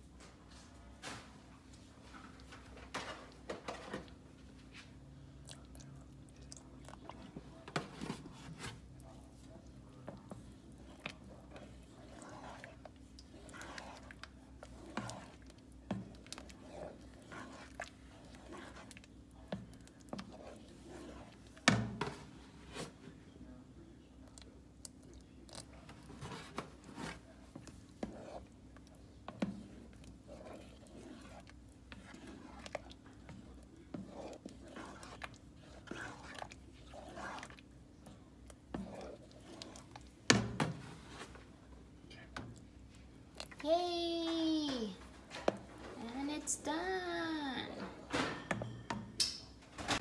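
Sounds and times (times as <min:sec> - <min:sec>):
thick soup sloshing: 0:01.2 - 0:23.6, 0:24.2 - 0:43.6.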